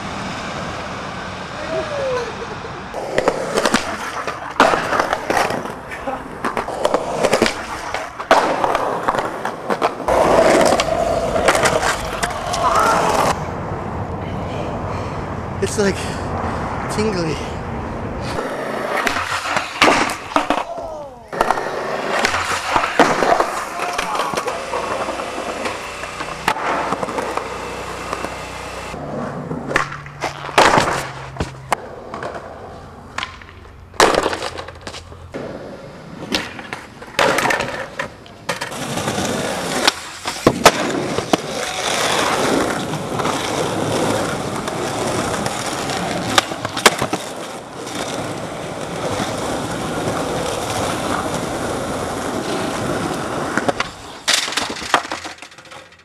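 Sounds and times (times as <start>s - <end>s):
skateboard wheels rolling on concrete: 0.0s - 56.0s
skateboard clacks: 2.9s - 13.4s, 18.3s - 56.0s.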